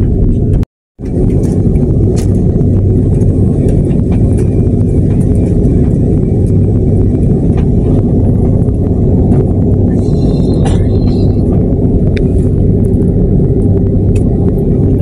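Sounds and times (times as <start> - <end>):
jet engine rumble and hum: 0.0 - 15.0.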